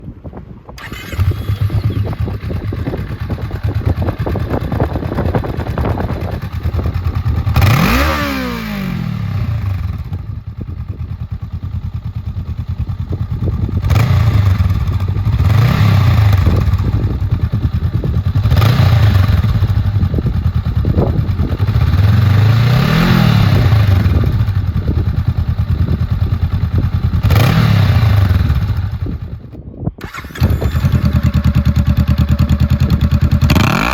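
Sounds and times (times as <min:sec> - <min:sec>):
motorcycle engine idling and revving: 0:00.8 - 0:33.9.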